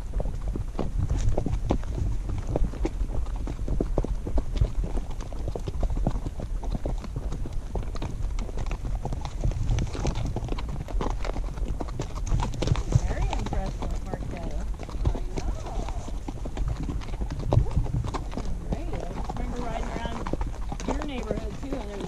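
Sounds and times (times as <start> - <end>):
hooves clip-clopping on dirt: 0.0 - 22.0.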